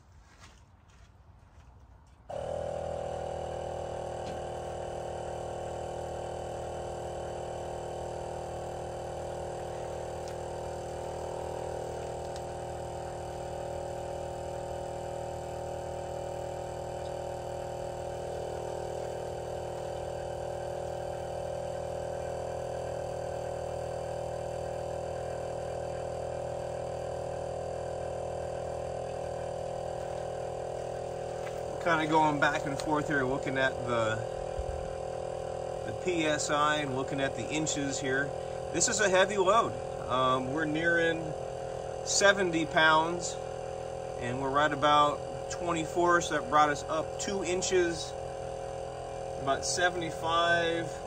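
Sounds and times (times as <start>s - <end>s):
air compressor running: 0.0s - 51.0s.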